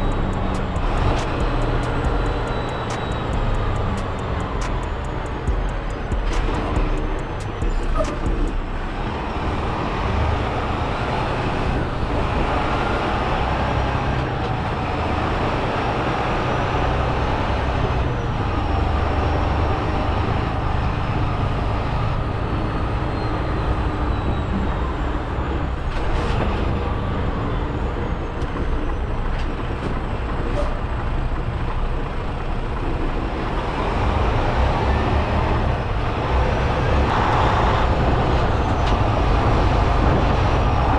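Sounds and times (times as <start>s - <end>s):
diesel engine rumble: 0.0s - 40.9s
road noise: 0.0s - 40.9s.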